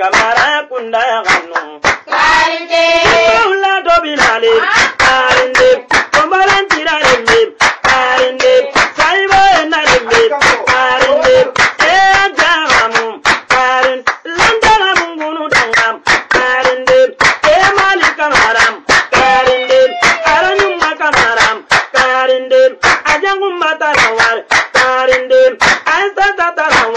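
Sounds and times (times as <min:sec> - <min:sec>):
rhythmic hand clapping: 0:00.0 - 0:26.9
person singing in high voice: 0:02.1 - 0:26.9.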